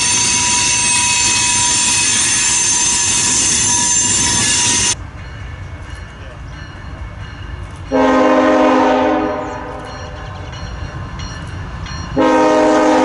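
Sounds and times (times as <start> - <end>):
train wheels squealing: 0.0 - 7.8, 9.4 - 12.2
train wheels clattering on rails: 0.0 - 13.0.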